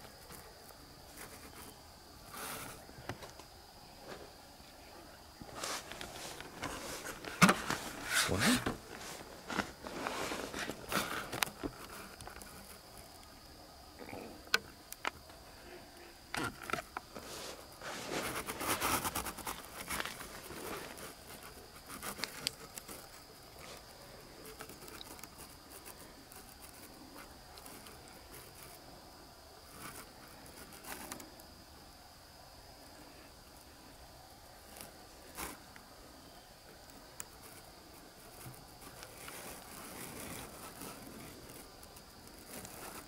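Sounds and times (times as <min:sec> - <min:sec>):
rustling: 0:00.0 - 0:04.4, 0:05.4 - 0:14.2, 0:14.8 - 0:29.0, 0:29.6 - 0:31.6, 0:34.6 - 0:43.0
night insects chirring: 0:00.0 - 0:43.0.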